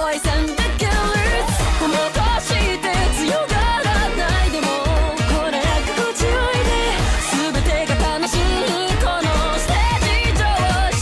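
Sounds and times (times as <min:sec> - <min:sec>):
electronic pop kick-drum beat: 0:00.0 - 0:11.0
woman singing: 0:00.0 - 0:11.0.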